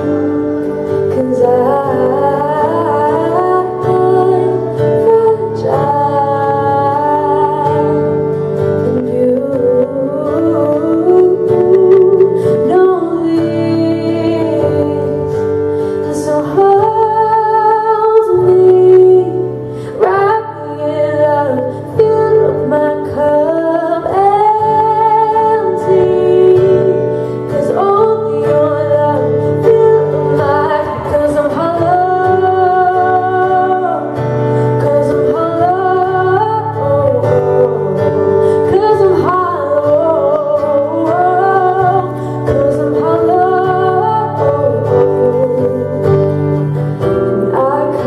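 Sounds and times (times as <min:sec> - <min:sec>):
acoustic guitar: 0:00.0 - 0:48.0
woman singing worship song: 0:00.0 - 0:48.0.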